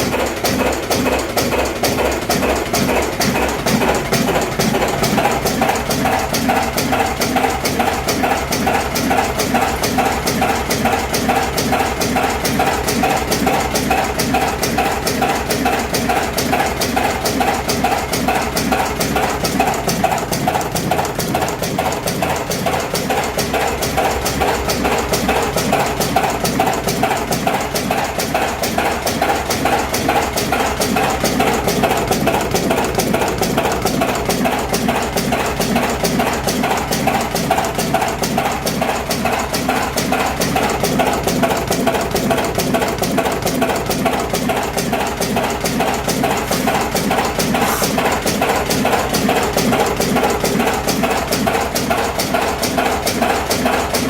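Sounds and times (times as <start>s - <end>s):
machine clattering: 0.0s - 54.0s.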